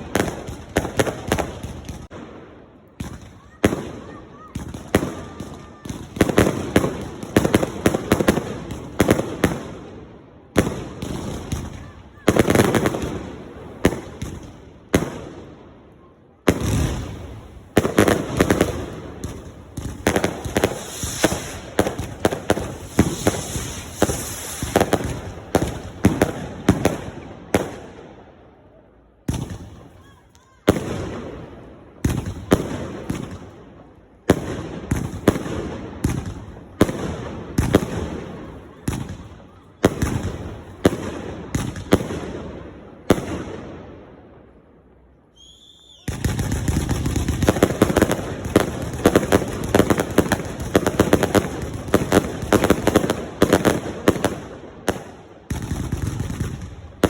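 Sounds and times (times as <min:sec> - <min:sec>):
fireworks bangs and crackle: 0:00.0 - 0:57.0.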